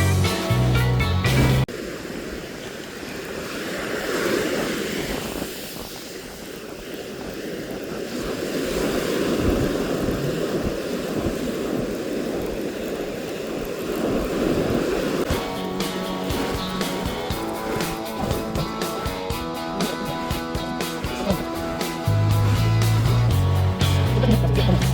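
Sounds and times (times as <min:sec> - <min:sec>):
surf breaking on beach: 0:01.3 - 0:24.9
wind buffeting microphone: 0:01.7 - 0:24.8.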